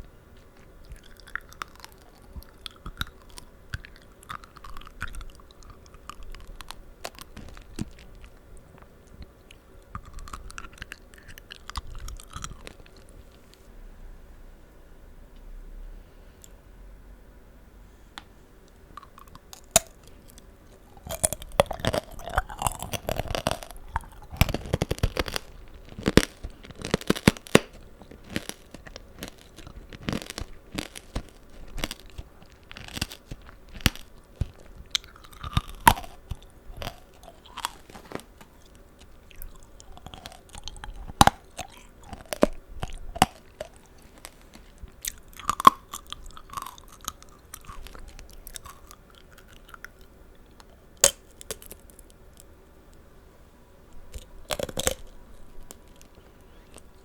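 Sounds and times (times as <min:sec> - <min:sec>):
hard candy crunching: 0:00.0 - 0:13.4, 0:18.7 - 0:52.6, 0:53.9 - 0:57.0
wet juicy chewing: 0:00.5 - 0:13.2, 0:19.0 - 0:52.5, 0:54.1 - 0:56.9.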